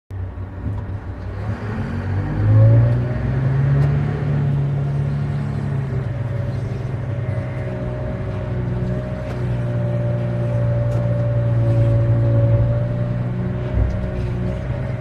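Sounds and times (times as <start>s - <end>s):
diesel truck engine revving: 0.2s - 15.0s.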